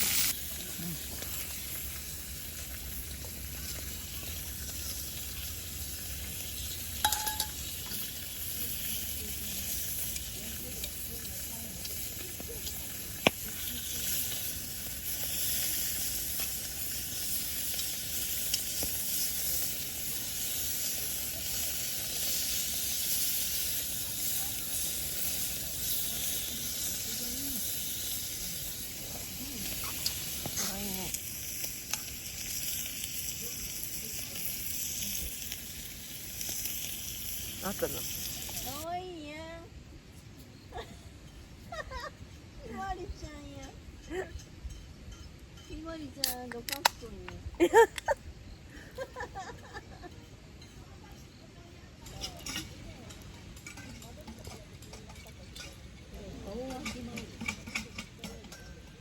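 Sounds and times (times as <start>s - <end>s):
food sizzling on a griddle: 0.0s - 59.0s.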